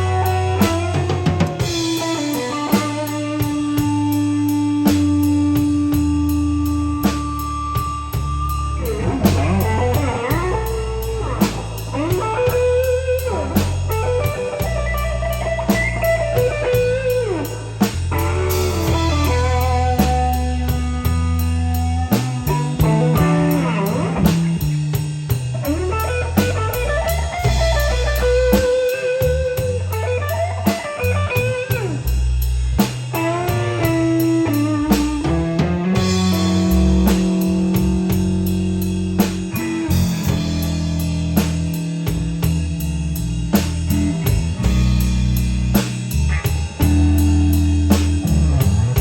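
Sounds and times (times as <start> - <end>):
bass guitar: 0.0 - 49.0
blues guitar lead: 0.0 - 49.0
drum kit beat: 0.0 - 49.0.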